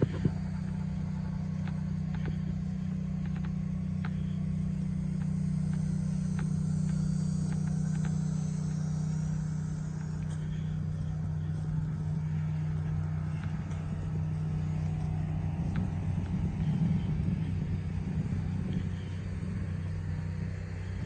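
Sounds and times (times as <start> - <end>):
pickup engine idling: 0.0 - 21.0.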